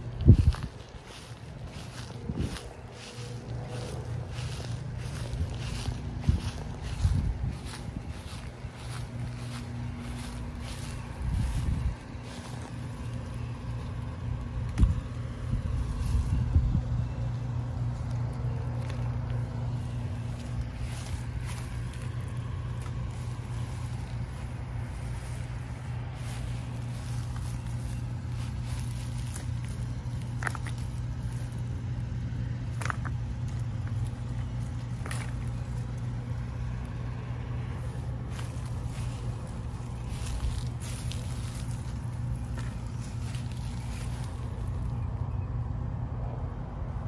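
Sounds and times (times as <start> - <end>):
faint rustles and clicks: 0.0 - 45.3
steady low machine hum: 0.0 - 47.0.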